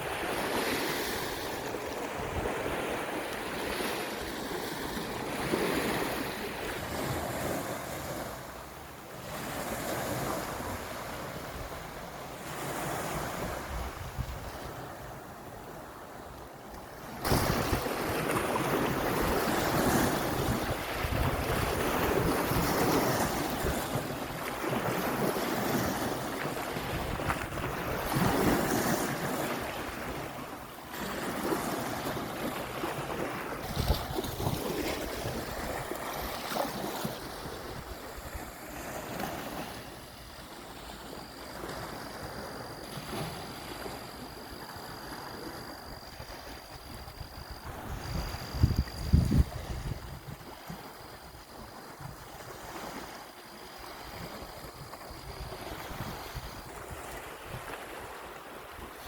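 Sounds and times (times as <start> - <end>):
waves washing ashore: 0.0 - 59.0.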